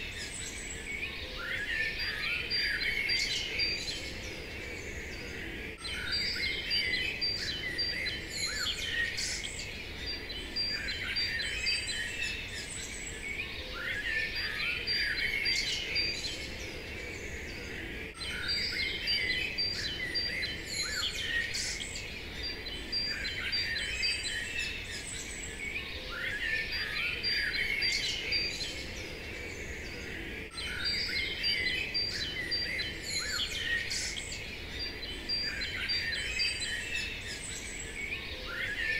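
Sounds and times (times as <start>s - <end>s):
birds chirping and singing: 0.0s - 38.9s
steady outdoor hiss: 0.0s - 38.9s.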